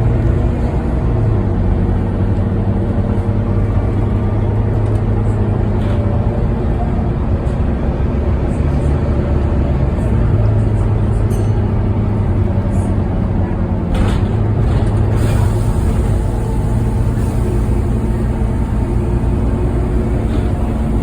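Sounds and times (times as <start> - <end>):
bus engine and fan drone: 0.0 - 21.0.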